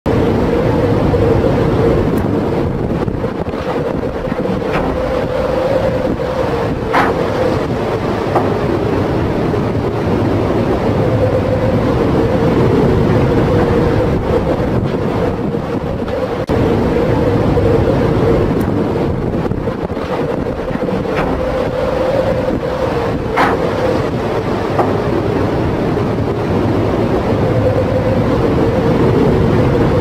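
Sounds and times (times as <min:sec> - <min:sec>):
heavy waves washing: 0:00.1 - 0:30.0
steady droning hum: 0:00.1 - 0:30.0
strong wind on microphone: 0:00.1 - 0:30.0.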